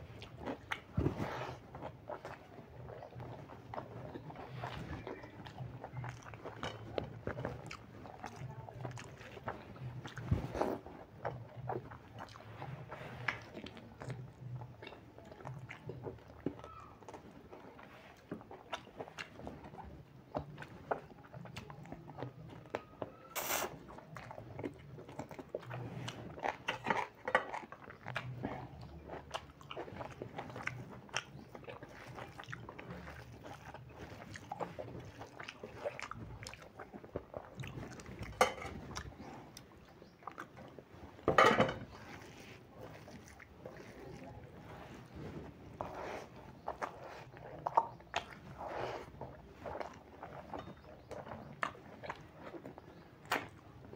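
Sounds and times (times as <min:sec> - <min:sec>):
chewing and wet mouth smacking: 0:00.0 - 0:53.9.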